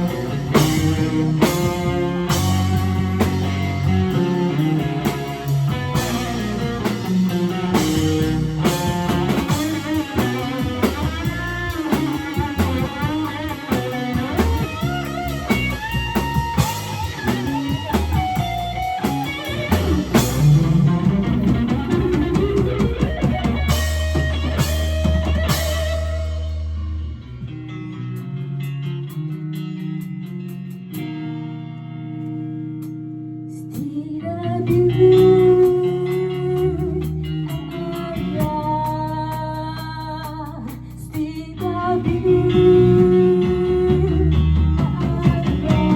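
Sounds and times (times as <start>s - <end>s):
drum kit: 0.0s - 31.7s, 32.7s - 45.9s
electric guitar solo: 0.0s - 40.7s
bass guitar: 0.0s - 45.9s.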